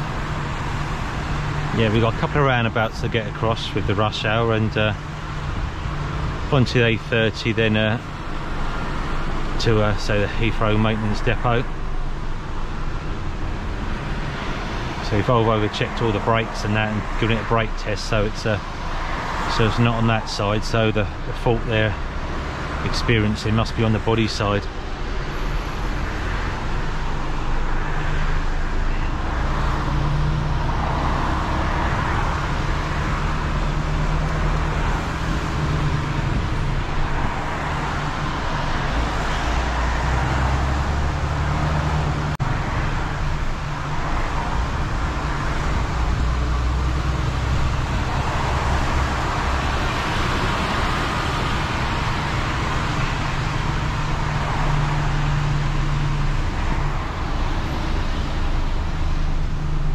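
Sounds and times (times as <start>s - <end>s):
diesel truck engine running: 0.0s - 59.9s
tyre and road noise: 0.0s - 59.9s.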